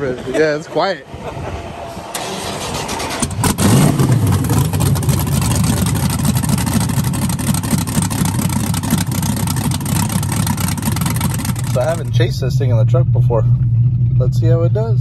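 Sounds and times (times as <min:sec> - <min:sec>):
engine running loudly: 0:01.2 - 0:15.0.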